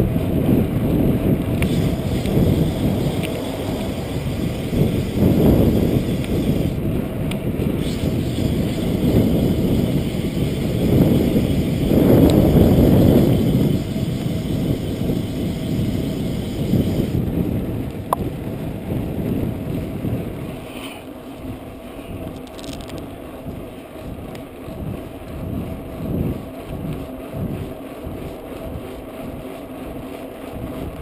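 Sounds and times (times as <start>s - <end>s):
tyres rumbling on asphalt: 0.0s - 31.0s
wind buffeting microphone: 0.0s - 31.0s.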